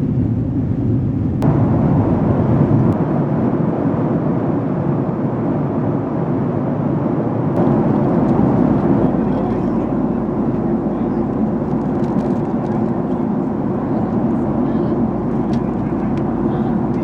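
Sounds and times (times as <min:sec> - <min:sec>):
jet cabin noise in flight: 0:00.0 - 0:17.0.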